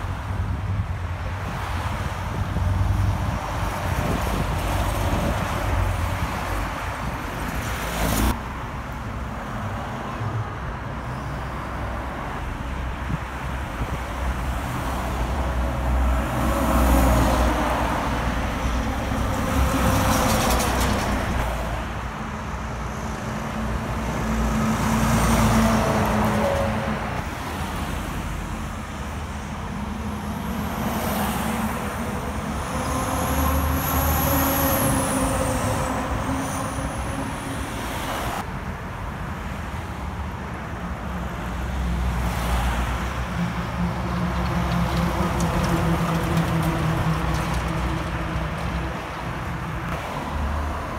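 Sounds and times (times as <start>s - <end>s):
cars passing: 0.0s - 50.9s
diesel trucks passing: 0.0s - 50.9s.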